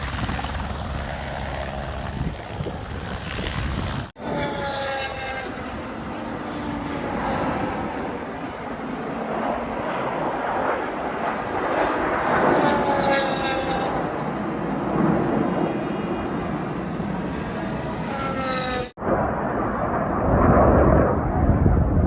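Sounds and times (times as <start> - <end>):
aircraft engines flying past: 0.0 - 22.0.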